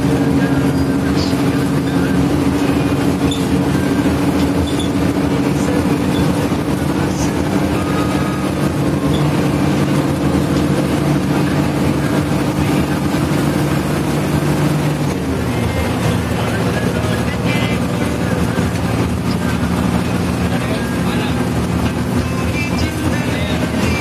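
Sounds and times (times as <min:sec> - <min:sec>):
bus engine drone: 0:00.0 - 0:24.0
road and tyre noise: 0:00.0 - 0:24.0.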